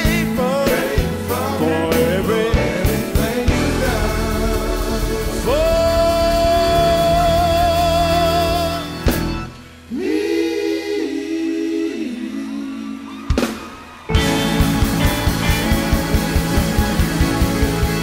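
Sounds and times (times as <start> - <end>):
band accompaniment: 0.0 - 9.9, 13.1 - 18.0
group vocal harmony: 0.0 - 17.2.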